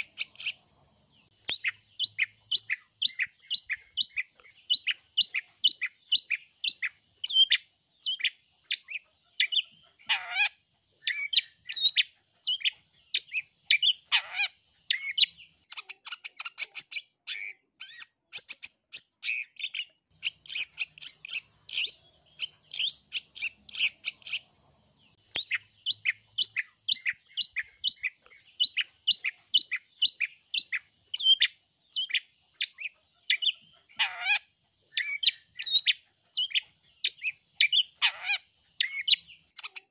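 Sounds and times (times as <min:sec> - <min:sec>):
faint high hiss: 0:00.0 - 0:15.7, 0:20.1 - 0:39.6
harsh rasping bird calls: 0:00.0 - 0:39.9.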